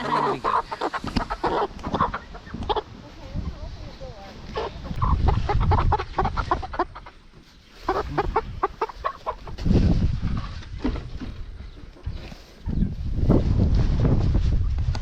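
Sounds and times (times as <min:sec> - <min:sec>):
chickens clucking and squawking: 0:00.0 - 0:14.6.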